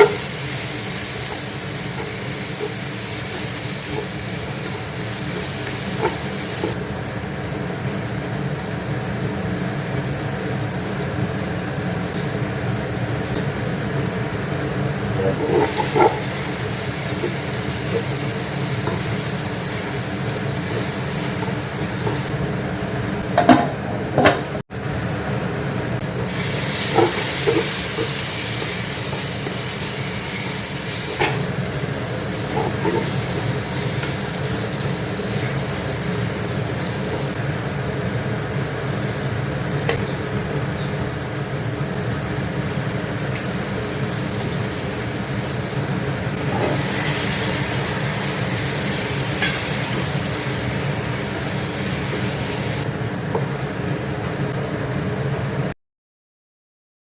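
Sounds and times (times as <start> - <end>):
food sizzling in a pan: 0.0 - 23.3, 26.0 - 53.5.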